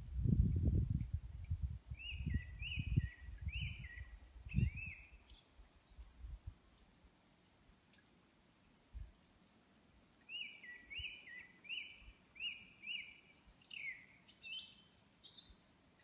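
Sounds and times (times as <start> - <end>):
songbird singing: 0.6 - 16.0.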